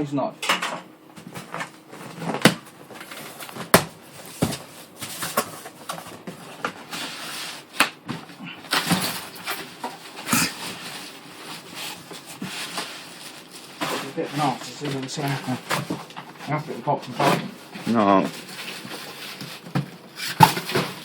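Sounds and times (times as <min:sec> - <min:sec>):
packaging rustling and scraping: 0:01.2 - 0:21.0.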